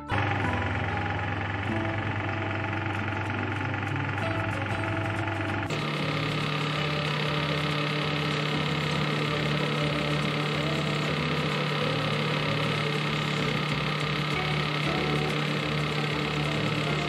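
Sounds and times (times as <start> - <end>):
belt grinder motor hum: 0.0 - 17.0.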